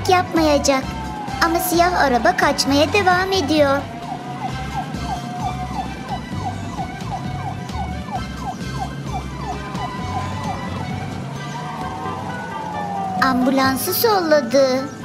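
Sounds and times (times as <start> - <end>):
cartoon siren yelp: 0.0 - 15.0.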